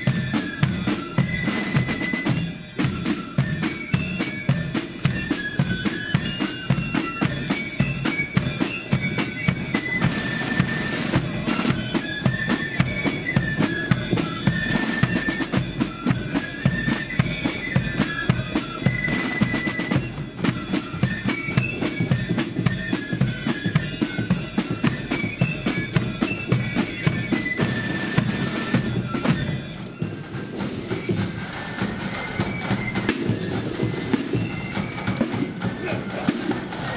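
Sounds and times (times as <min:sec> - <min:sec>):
high flutes playing a tune: 0:00.0 - 0:36.9
snare drums: 0:00.0 - 0:36.9.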